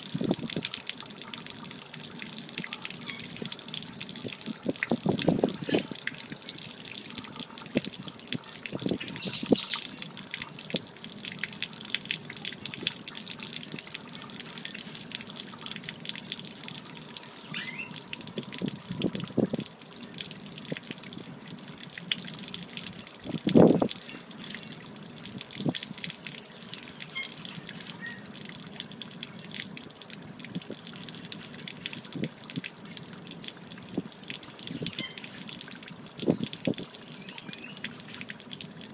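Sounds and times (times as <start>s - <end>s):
water stream splattering on pavement: 0.0s - 38.9s.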